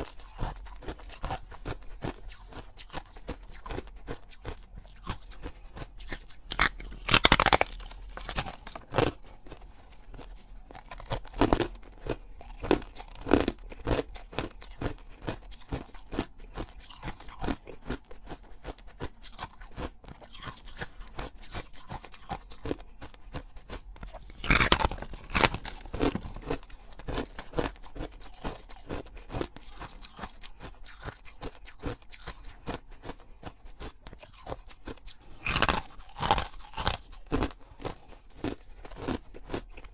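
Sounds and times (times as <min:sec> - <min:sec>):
person biting and chewing food: 0:00.0 - 0:39.9.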